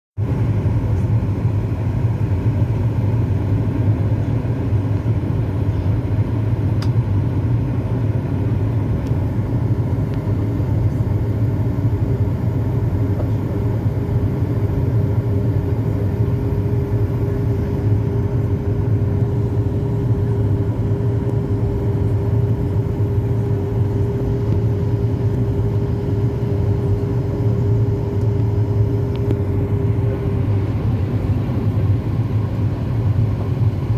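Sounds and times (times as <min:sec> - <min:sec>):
jet engines rumbling: 0:00.2 - 0:33.9
steady hum: 0:00.2 - 0:33.9.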